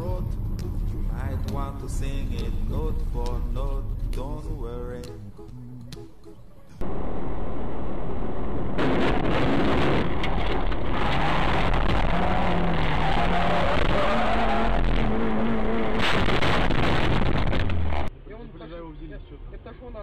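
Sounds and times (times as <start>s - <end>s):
road and wind noise: 0.0s - 18.8s.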